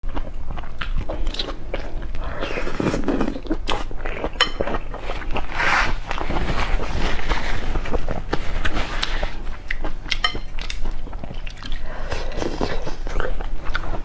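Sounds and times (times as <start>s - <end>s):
person chewing: 0.1s - 14.0s.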